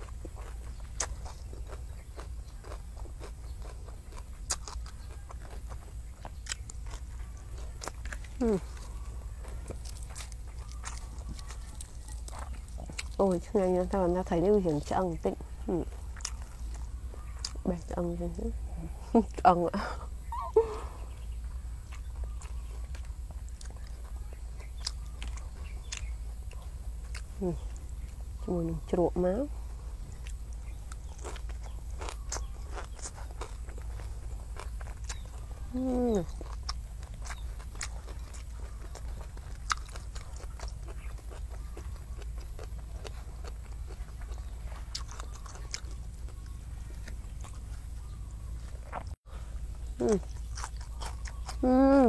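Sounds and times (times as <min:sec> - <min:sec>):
person chewing: 0:00.0 - 0:17.6, 0:18.9 - 0:28.5, 0:29.6 - 0:52.0
low steady rumble: 0:00.0 - 0:52.0.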